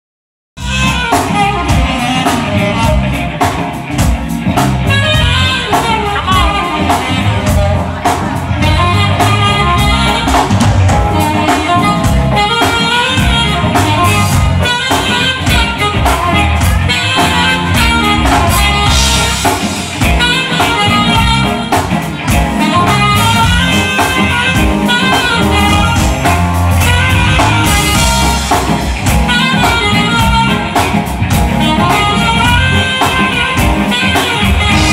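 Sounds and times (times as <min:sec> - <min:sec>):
drum kit: 0:00.6 - 0:34.9
electric guitar: 0:00.6 - 0:34.9
keyboard: 0:00.6 - 0:34.9
saxophone melody: 0:00.6 - 0:34.9.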